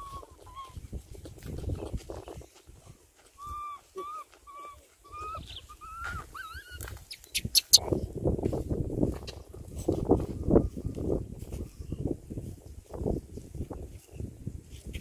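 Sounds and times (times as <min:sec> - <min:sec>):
footsteps through dry scrub: 0:00.0 - 0:07.3, 0:08.0 - 0:15.0.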